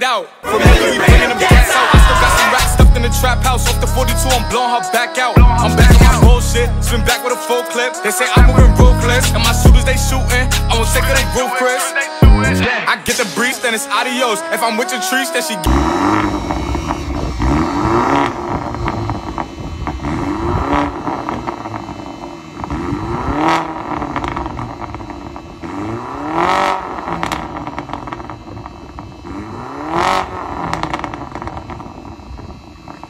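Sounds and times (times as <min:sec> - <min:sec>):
car engine revving: 0:00.5 - 0:04.6, 0:05.4 - 0:07.4, 0:08.4 - 0:13.0, 0:15.6 - 0:33.0.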